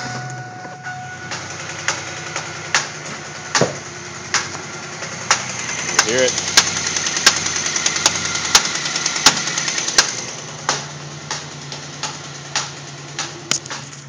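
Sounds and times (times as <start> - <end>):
car engine running: 0.0 - 14.0
rapid engine ticking: 0.0 - 14.0
loud sharp engine pops: 1.2 - 14.0.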